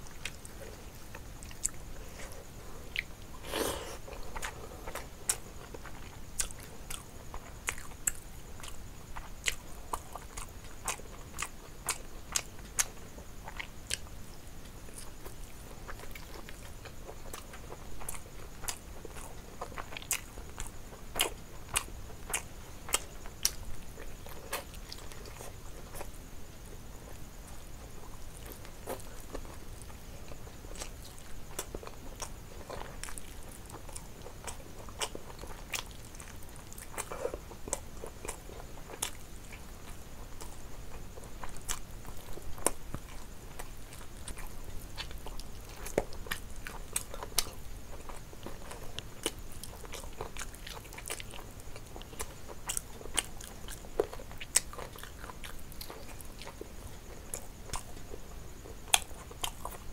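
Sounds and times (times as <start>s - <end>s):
chewing and biting food: 0.0s - 26.2s, 27.0s - 59.9s.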